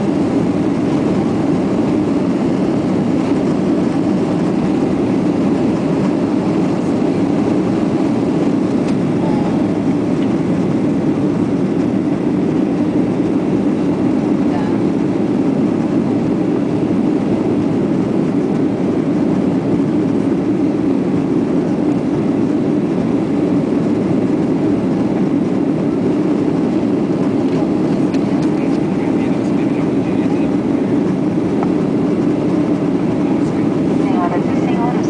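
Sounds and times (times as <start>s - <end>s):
jet engine roar in cabin: 0.0s - 35.0s.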